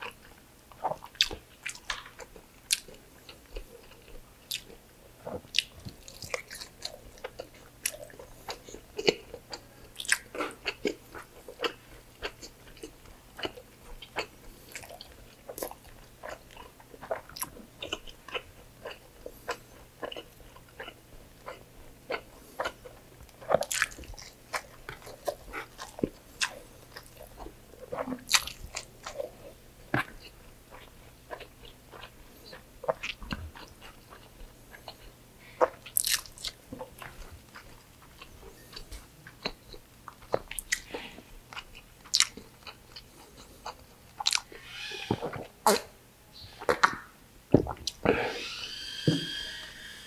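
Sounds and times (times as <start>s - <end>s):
wet chewing and mouth clicks: 0.0s - 45.9s.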